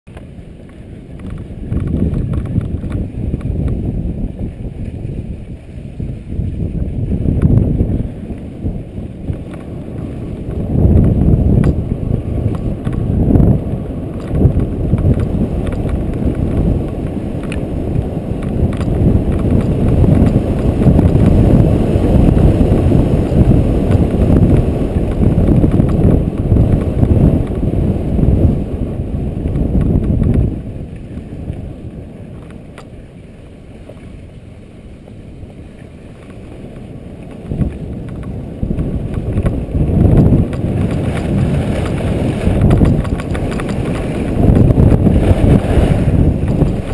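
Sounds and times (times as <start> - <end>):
wind buffeting microphone: 0.1 - 46.9
skis scraping over snow: 0.7 - 46.9.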